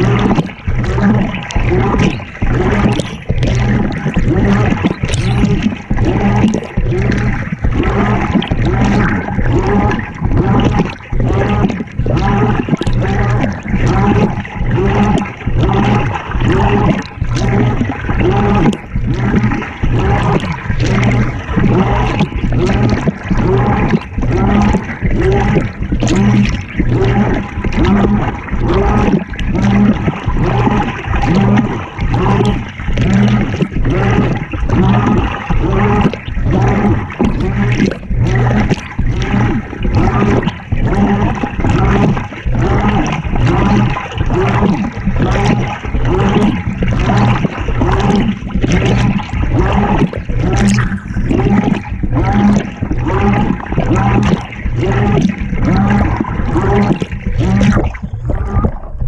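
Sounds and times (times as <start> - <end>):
washing machine motor hum: 0.0 - 59.0
water and laundry sloshing: 0.0 - 59.0.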